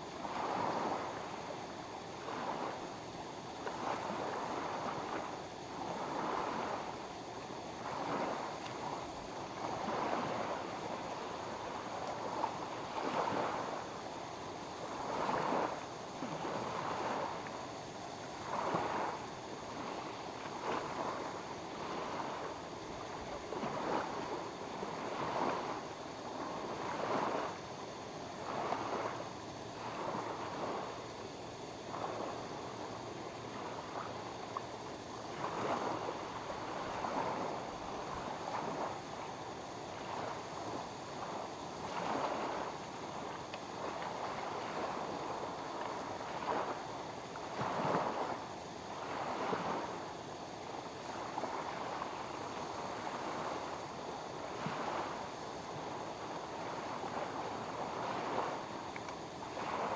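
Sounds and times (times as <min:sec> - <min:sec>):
small waves lapping against shore: 0:00.0 - 0:59.9.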